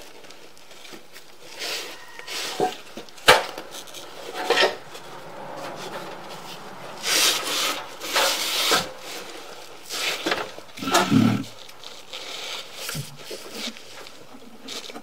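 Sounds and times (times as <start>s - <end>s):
scraping bursts: 0.7s - 15.0s.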